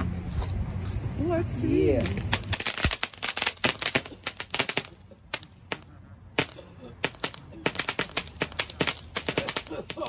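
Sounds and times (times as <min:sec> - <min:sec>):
firework fountain crackling: 0:00.8 - 0:10.0.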